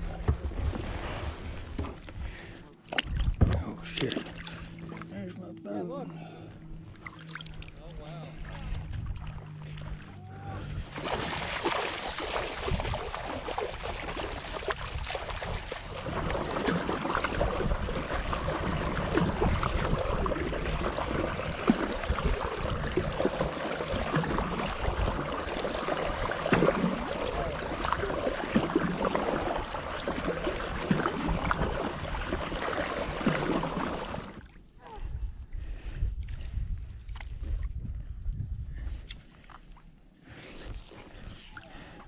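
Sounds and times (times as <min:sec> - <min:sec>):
water splashing around kayak: 0:00.0 - 0:37.8.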